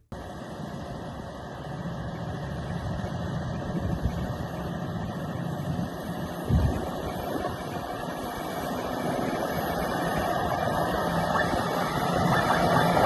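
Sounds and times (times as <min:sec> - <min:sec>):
truck diesel engine pulling hard: 0:00.2 - 0:13.0.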